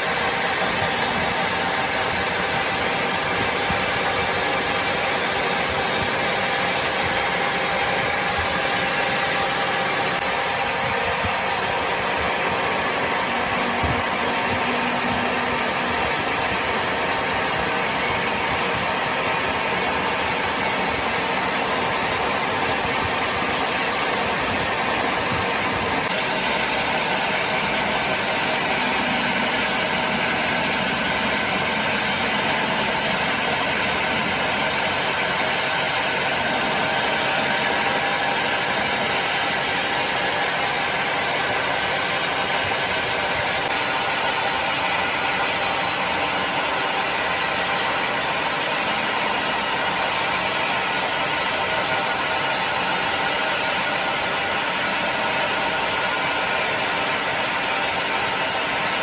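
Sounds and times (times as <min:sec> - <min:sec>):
workshop machine humming: 0:00.0 - 0:59.0.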